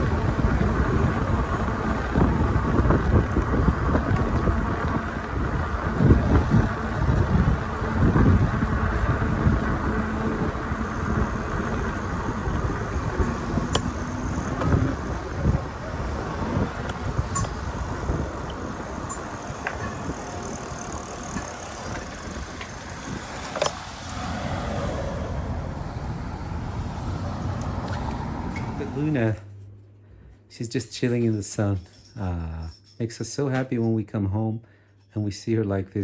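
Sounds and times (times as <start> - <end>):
wind on microphone: 0.0 - 29.1
bicycle riding rumble: 0.0 - 29.4
road and traffic noise: 0.0 - 30.5.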